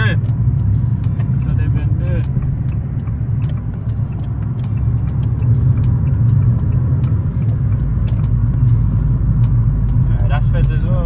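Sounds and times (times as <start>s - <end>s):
car engine and road drone: 0.0s - 11.0s
faint sharp ticks: 0.2s - 10.9s.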